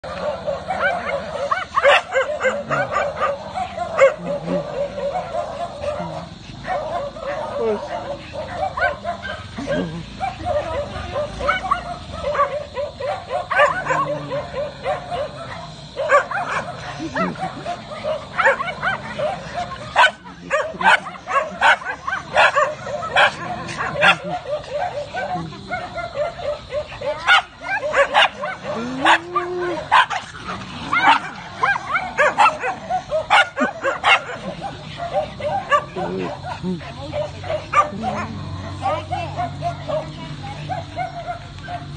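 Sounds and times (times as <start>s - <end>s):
dogs barking and yapping: 0.0s - 41.9s.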